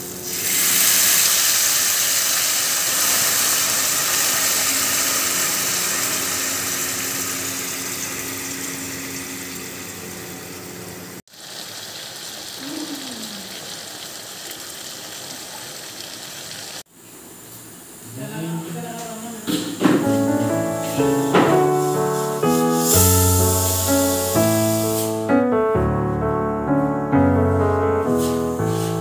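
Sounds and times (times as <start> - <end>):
water hissing in hot oil: 0.0 - 19.7, 20.8 - 25.3, 28.1 - 29.0
pan sizzling: 0.0 - 25.5, 27.2 - 29.0.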